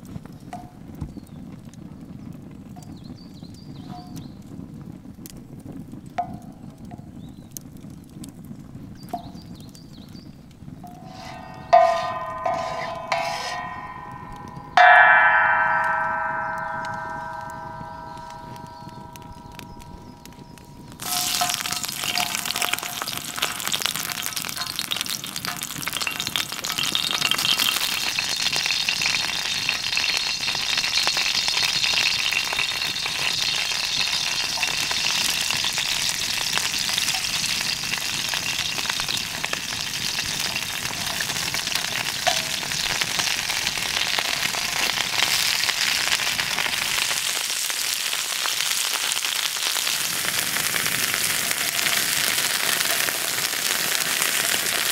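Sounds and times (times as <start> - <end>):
prawns sizzling on pan: 10.8 - 54.9.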